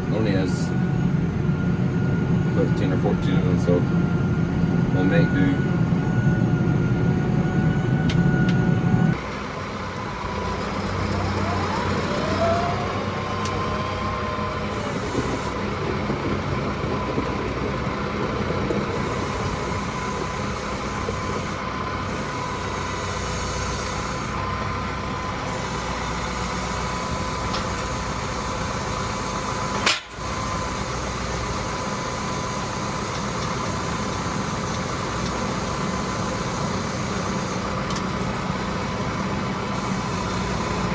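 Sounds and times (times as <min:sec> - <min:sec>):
thin steady whine: 0:00.0 - 0:40.9
tractor engine running: 0:00.0 - 0:40.9.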